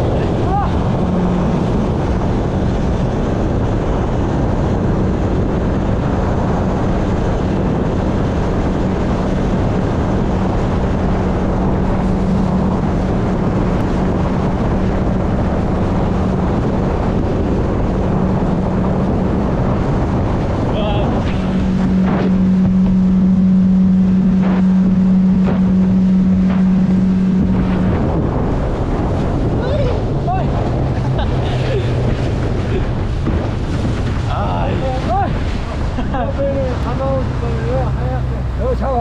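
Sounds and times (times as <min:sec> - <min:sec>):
speedboat engine running: 0:00.0 - 0:39.0
water rushing: 0:00.0 - 0:39.0
wind on microphone: 0:00.0 - 0:39.0.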